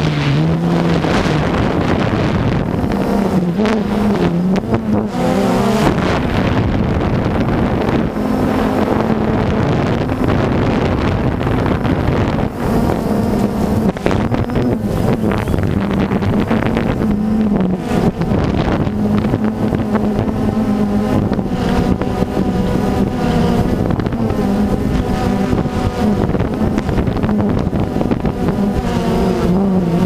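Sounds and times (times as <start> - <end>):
aircraft engine and rotor hum: 0.0 - 30.0
wind rushing over microphone: 0.0 - 30.0.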